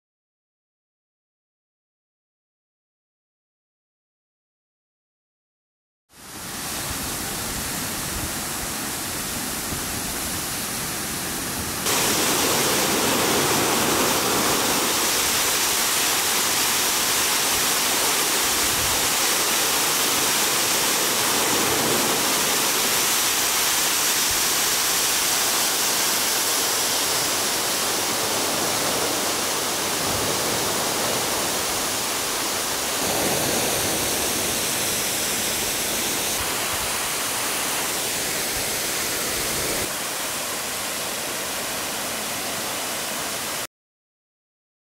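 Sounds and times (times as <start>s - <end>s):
waterfall rushing: 6.2s - 43.7s.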